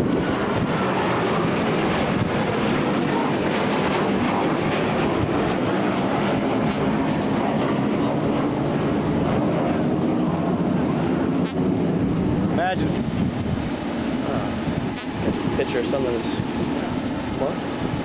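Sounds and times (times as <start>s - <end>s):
jet engines flying overhead: 0.0s - 18.0s.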